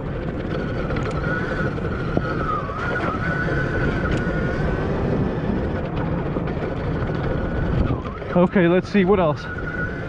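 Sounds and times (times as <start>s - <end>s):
electric motorbike motor whining: 0.0s - 10.0s
wind buffeting microphone: 0.0s - 10.0s.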